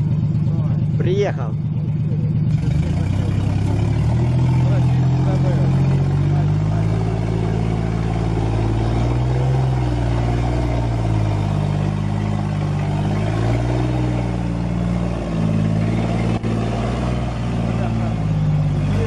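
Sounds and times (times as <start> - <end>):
heavy truck engine revving: 0.0 - 19.0.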